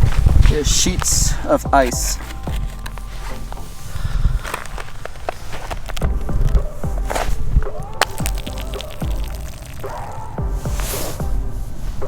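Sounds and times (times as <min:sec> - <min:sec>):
footsteps in snow: 0:00.0 - 0:12.0.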